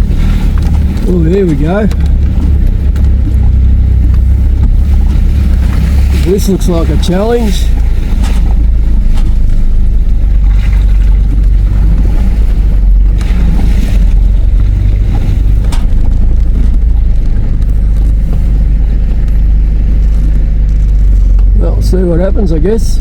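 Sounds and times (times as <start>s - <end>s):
off-road vehicle engine rumble: 0.0s - 23.0s.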